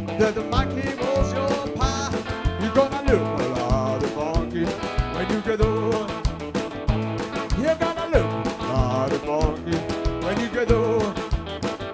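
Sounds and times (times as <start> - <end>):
upbeat country song: 0.0 - 11.9.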